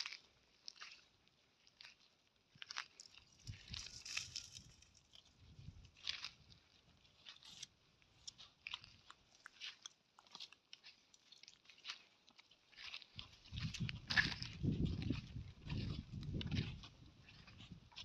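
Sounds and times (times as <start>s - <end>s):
crunching and snapping: 2.6s - 17.6s
camel chewing twigs: 2.6s - 18.0s.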